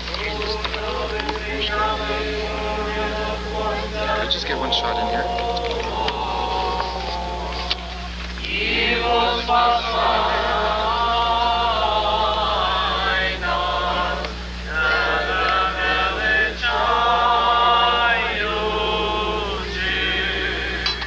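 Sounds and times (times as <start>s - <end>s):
men singing a chant: 0.0s - 21.0s
steady low hum: 0.0s - 21.0s.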